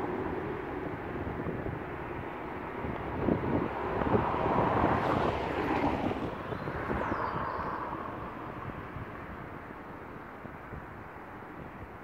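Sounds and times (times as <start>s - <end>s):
traffic passing: 0.0s - 12.0s
wind buffeting microphone: 0.0s - 12.0s.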